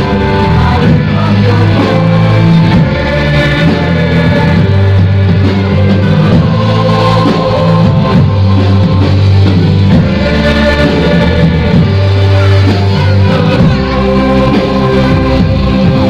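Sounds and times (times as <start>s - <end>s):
loud band music: 0.0s - 16.0s.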